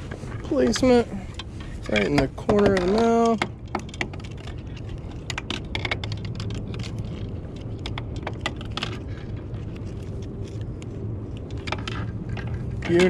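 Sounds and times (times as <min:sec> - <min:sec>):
low steady hum: 0:00.0 - 0:13.0
fishing tackle clicking and rattling: 0:00.3 - 0:13.0.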